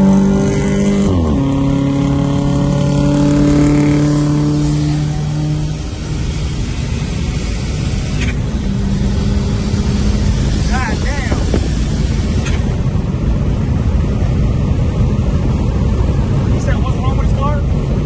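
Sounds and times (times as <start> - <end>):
car engine revving: 0.0 - 18.0
road noise: 0.0 - 18.0.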